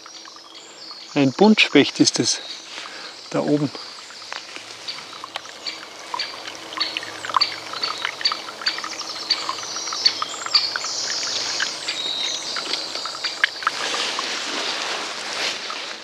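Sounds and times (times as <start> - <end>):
woodpeckers calling: 0.0 - 14.8
faint water trickling: 0.0 - 16.0.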